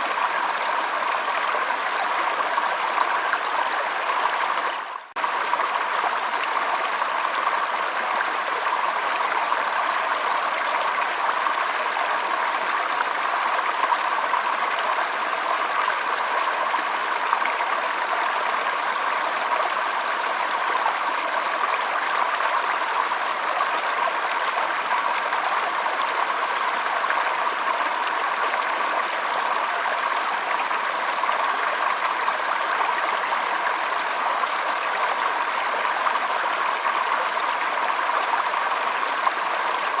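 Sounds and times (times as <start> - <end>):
water flowing: 0.0 - 40.0.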